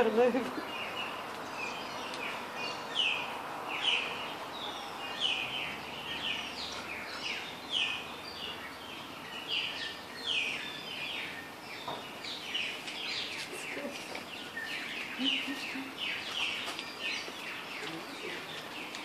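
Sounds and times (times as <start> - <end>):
birds calling falling notes: 0.0 - 19.0
steady background hiss: 0.0 - 19.0.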